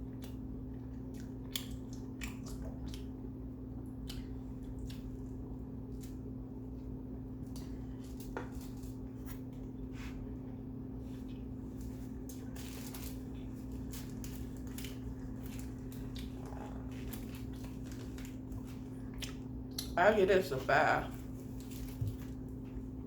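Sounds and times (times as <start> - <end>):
close chewing sounds: 0.0 - 20.0
steady low hum: 0.0 - 23.0.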